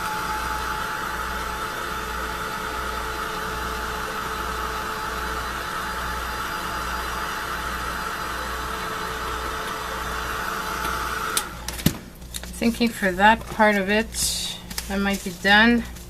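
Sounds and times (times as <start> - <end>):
hot-air blower running: 0.0 - 16.0.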